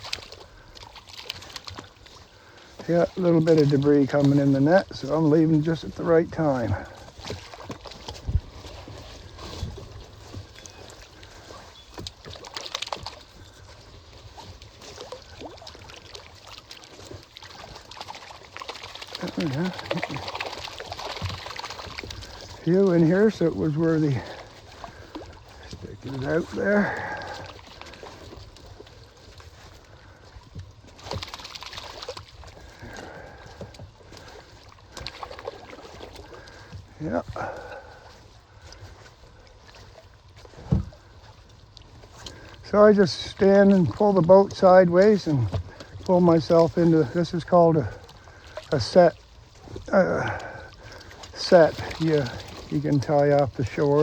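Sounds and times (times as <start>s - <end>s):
water dripping and splashing: 0.0s - 54.0s.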